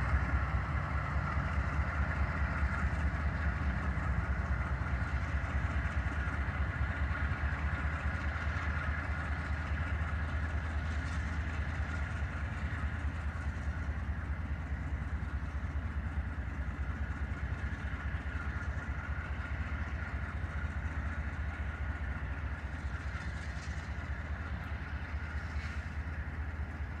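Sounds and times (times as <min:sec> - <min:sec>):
diesel locomotive engine rumbling: 0:00.0 - 0:27.0.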